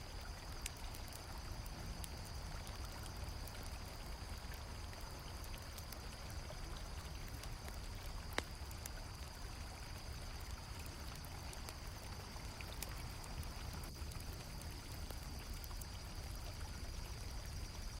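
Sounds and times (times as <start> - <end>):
campfire crackling: 0.0 - 18.0
crickets chirring: 0.0 - 18.0.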